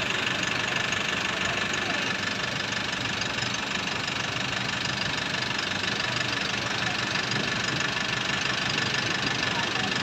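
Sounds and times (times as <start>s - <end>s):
diesel engine idling with knock: 0.0s - 10.0s.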